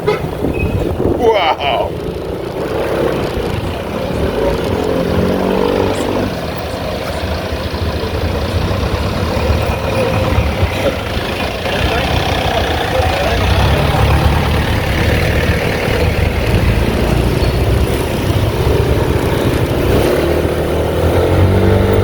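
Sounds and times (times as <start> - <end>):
road and wind noise: 0.0 - 22.0
motorcycle engine running: 1.7 - 22.0.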